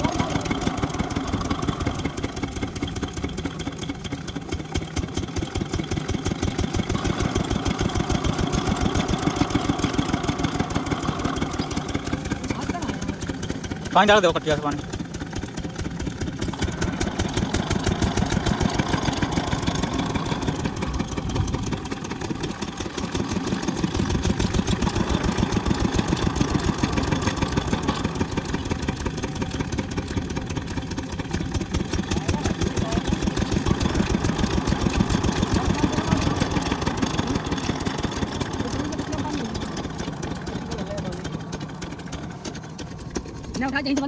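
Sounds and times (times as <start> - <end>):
diesel engine chugging: 0.0 - 44.0.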